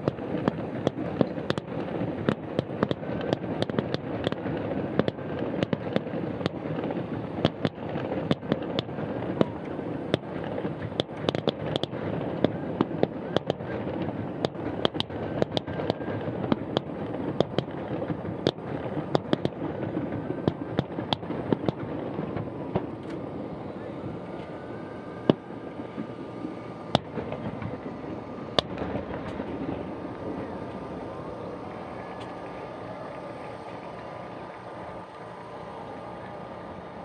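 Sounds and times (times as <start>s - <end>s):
fireworks popping and banging: 0.0s - 37.0s
steady background noise: 0.0s - 37.0s.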